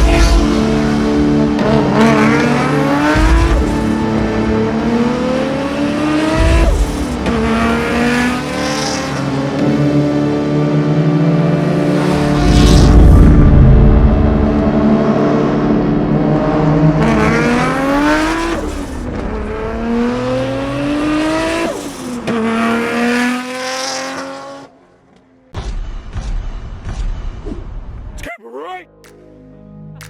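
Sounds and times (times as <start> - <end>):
turbocharged car engine revving: 0.0 - 24.8.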